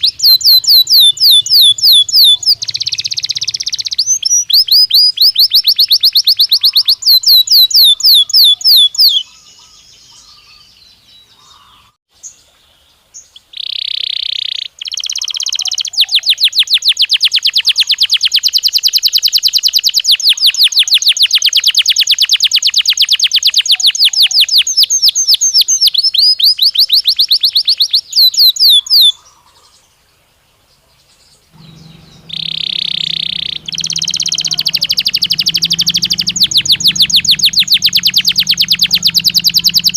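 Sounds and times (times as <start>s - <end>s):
canary singing trills: 0.0s - 12.4s, 13.2s - 29.8s, 31.5s - 39.9s.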